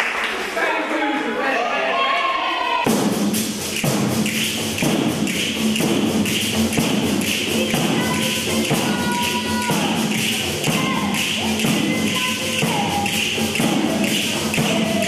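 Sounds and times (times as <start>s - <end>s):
frame drums with jingles: 2.9s - 15.0s.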